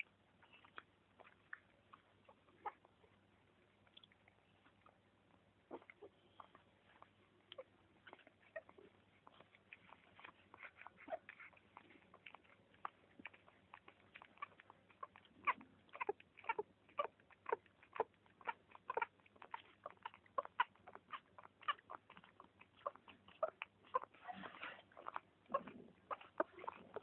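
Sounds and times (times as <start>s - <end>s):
newborn pets squeaking: 0.0s - 3.3s, 4.5s - 27.0s.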